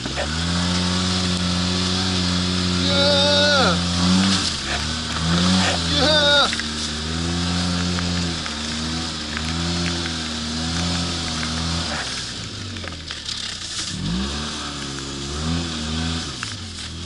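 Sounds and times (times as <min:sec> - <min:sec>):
engine running under throttle: 0:00.0 - 0:17.0.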